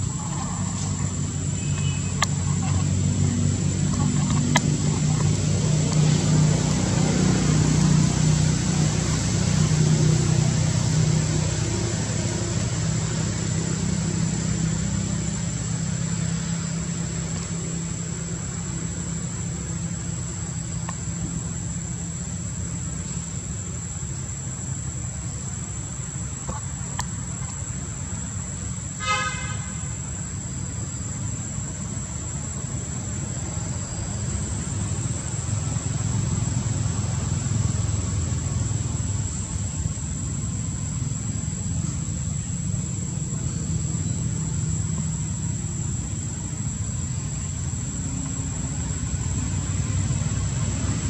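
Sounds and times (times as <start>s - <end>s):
vehicle engine running: 0.0s - 29.0s, 29.7s - 51.0s
high-pitched insect drone: 0.0s - 51.0s.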